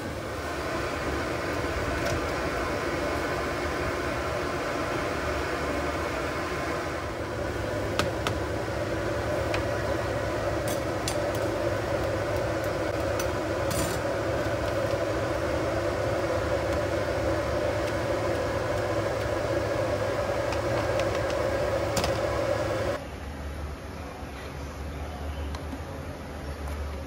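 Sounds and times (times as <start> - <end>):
boiling water and burner hum: 0.0 - 27.0.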